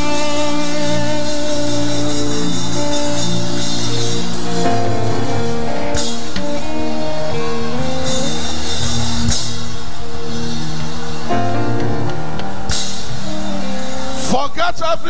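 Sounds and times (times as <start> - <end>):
held keyboard chords: 0.0 - 14.4
drums and bass: 0.0 - 15.0.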